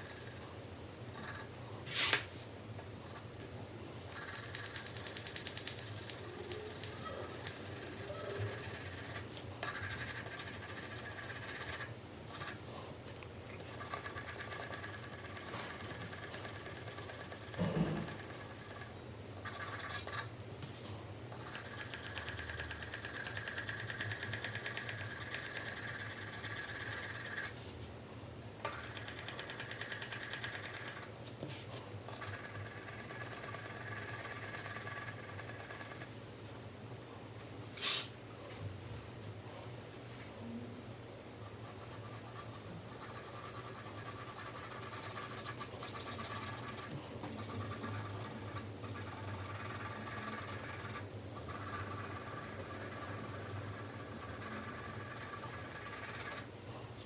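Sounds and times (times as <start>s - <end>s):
pencil scratching on paper: 0.0s - 0.5s, 1.1s - 2.2s, 4.1s - 12.6s, 13.7s - 20.3s, 21.4s - 27.6s, 28.7s - 36.1s, 40.9s - 56.5s.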